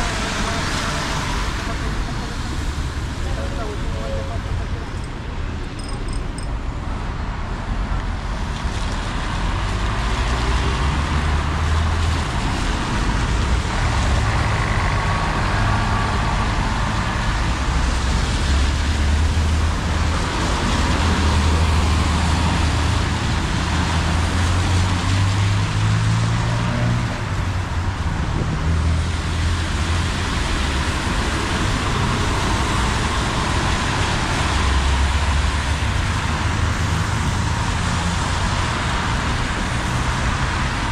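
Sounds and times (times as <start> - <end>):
tyres hissing on wet road: 0.0 - 4.8, 6.7 - 40.9
vehicles passing with engine rumble: 0.0 - 40.9.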